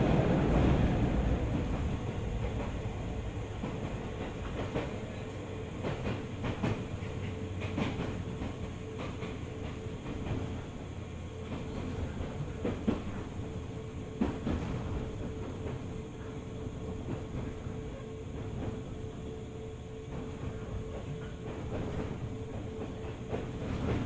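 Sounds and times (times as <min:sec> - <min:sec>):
train rumble and hum: 0:00.0 - 0:24.0.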